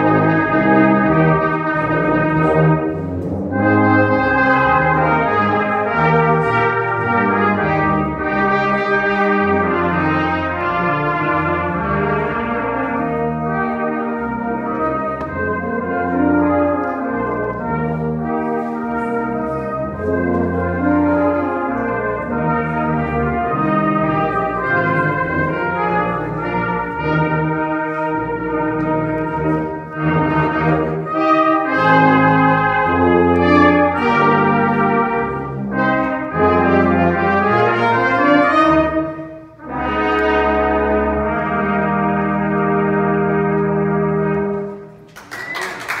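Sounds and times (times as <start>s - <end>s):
brass band playing chords: 0.0s - 45.2s
tubas: 0.0s - 46.0s.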